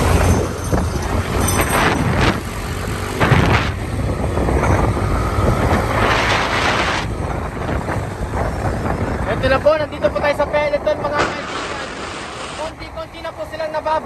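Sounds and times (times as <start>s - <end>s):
wind rushing over microphone: 0.0s - 13.0s
low rumble of road noise: 0.0s - 14.0s.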